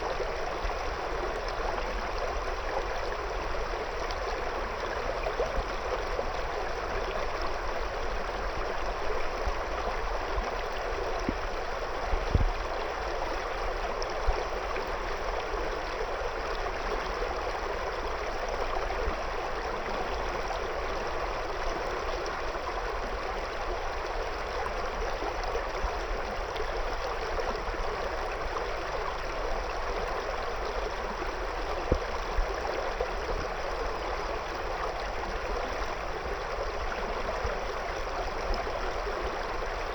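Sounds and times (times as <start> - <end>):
river water gurgling around stones: 0.0 - 39.9.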